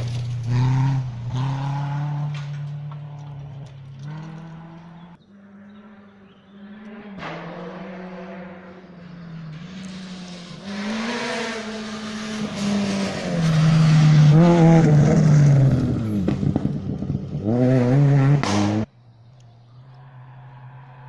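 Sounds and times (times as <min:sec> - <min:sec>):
rally car engine passing: 0:00.0 - 0:21.0.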